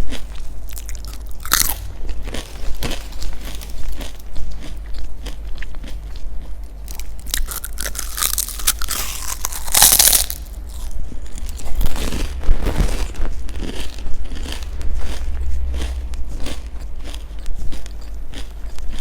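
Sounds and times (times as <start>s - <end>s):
crunchy food being chewed: 0.0s - 19.0s
steady low hum: 0.0s - 19.0s.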